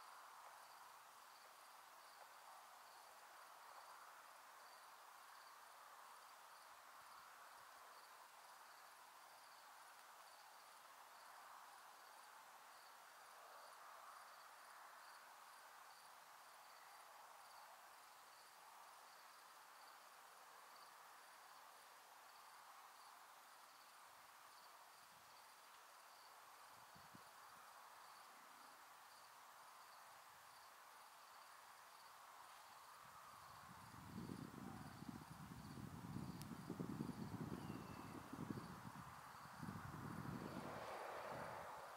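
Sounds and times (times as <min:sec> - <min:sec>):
distant cricket chirping: 0:00.0 - 0:41.9
faint steady hiss: 0:00.0 - 0:41.9.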